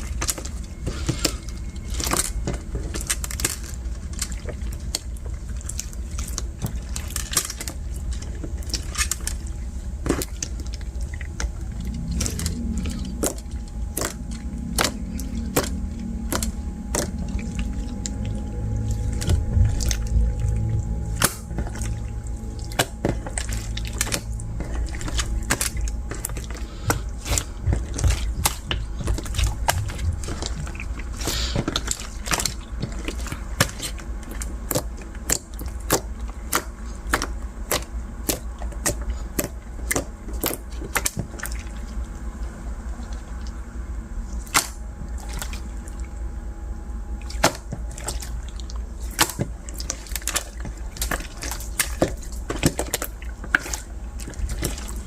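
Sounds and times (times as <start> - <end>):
wet squishing slime: 0.0 - 55.0.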